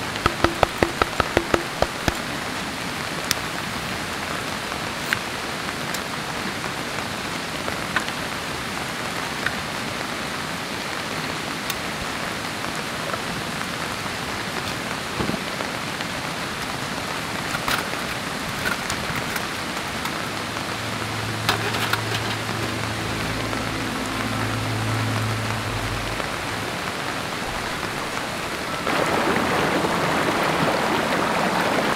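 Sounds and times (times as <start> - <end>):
rain on a tarp: 0.0 - 31.9.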